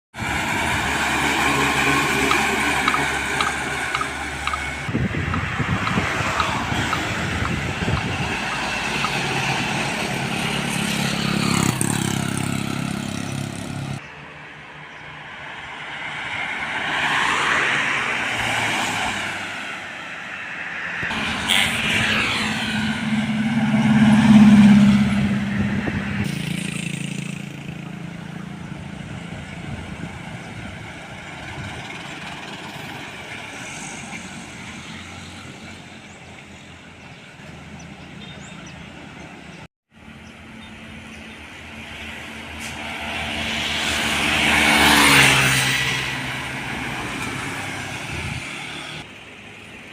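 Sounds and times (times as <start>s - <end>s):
heavy diesel vehicles passing: 0.2s - 49.9s.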